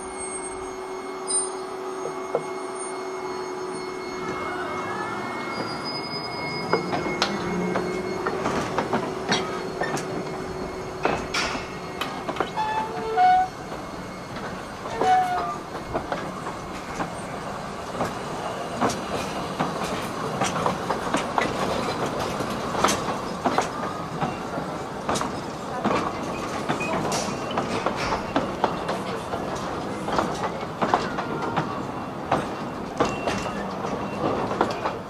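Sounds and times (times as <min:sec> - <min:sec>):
wheel squeals: 0:00.0 - 0:35.0
wheels clicking over rail joints: 0:06.7 - 0:35.0.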